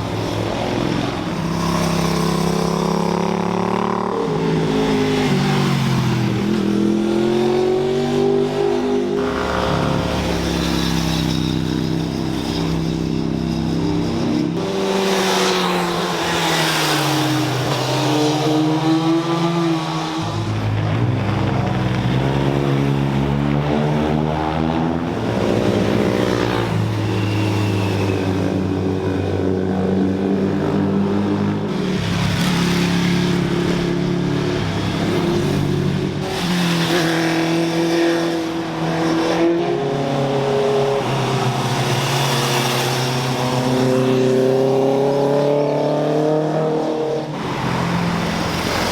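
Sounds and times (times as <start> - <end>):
sports cars revving past: 0.0 - 48.9
sports motorcycles revving past: 0.0 - 48.9.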